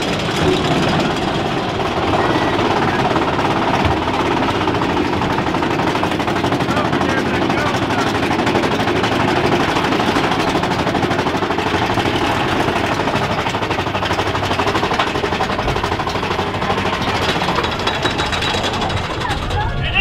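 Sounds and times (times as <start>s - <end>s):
roller coaster chain lift clatter: 0.0s - 20.0s.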